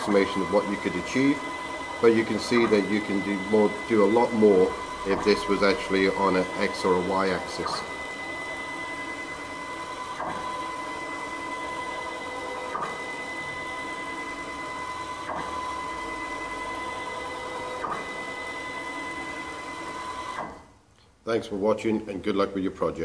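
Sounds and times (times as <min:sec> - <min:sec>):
stepper motor whining: 0:00.0 - 0:20.6.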